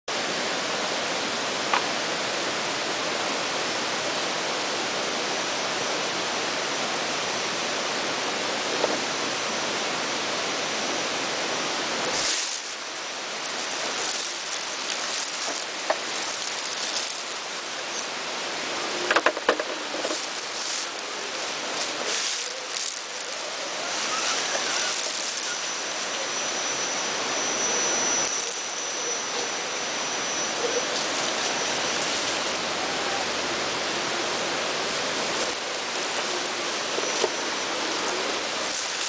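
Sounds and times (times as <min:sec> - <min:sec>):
falling water rushing: 0:00.1 - 0:39.0.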